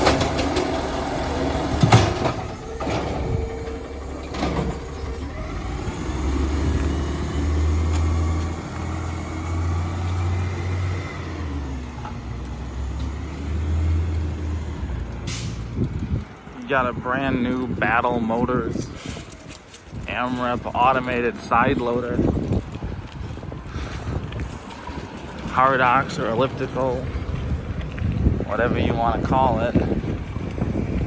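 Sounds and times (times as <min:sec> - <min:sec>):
deep rumble: 0:00.0 - 0:19.3, 0:20.0 - 0:31.0.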